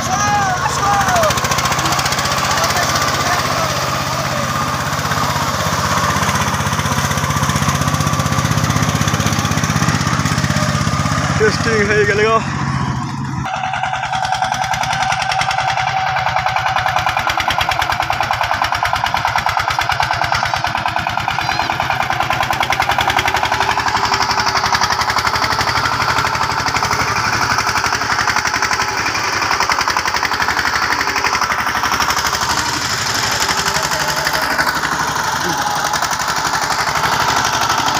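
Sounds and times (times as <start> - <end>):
diesel engine knocking: 0.0 - 37.9.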